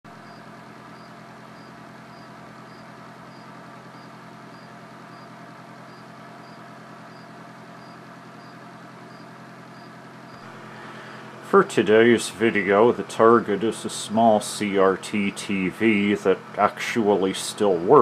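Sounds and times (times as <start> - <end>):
mechanical hum with hiss: 0.1 - 18.0.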